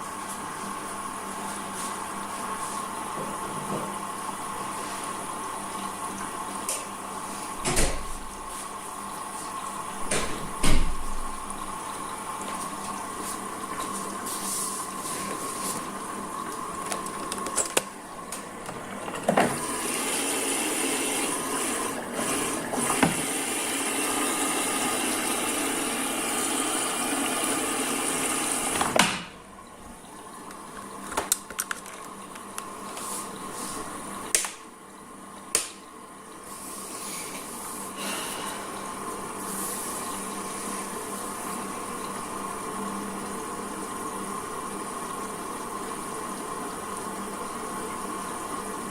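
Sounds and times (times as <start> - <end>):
washing machine motor hum: 0.0 - 48.9
water sloshing in washing machine: 0.0 - 48.9.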